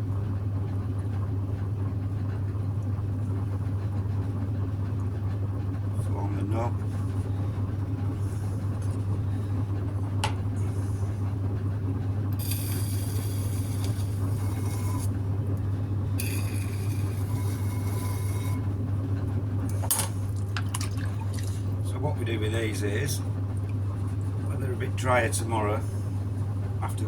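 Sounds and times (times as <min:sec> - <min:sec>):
potter's wheel motor hum: 0:00.0 - 0:27.0.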